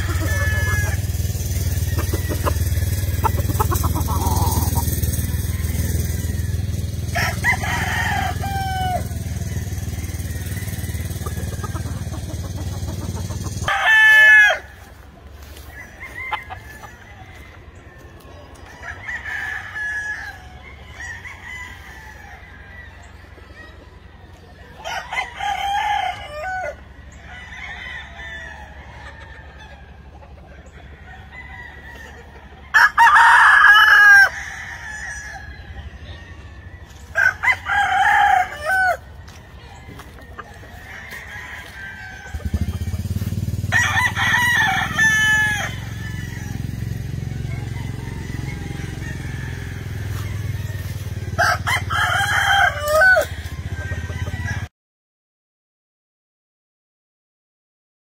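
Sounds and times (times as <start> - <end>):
roosters crowing: 0.0 - 54.7.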